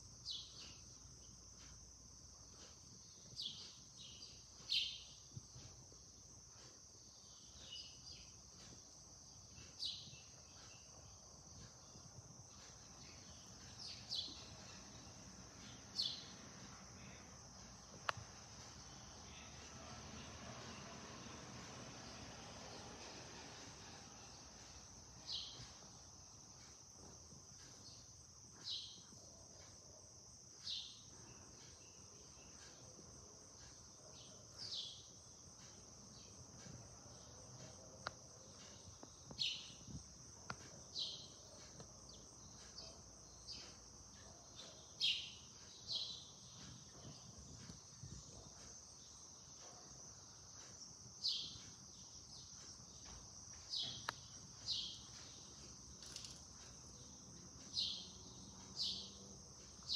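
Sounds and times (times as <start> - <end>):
high-pitched insect chorus: 0.0 - 59.9
sparrows chirping: 0.0 - 59.9.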